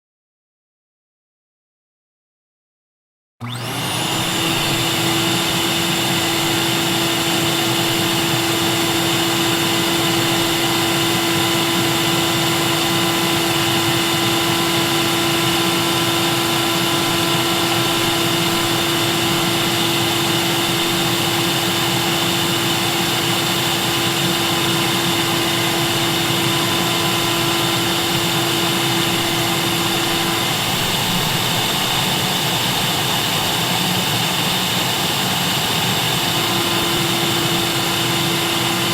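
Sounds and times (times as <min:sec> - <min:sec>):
vacuum cleaner motor whine: 0:03.4 - 0:38.9.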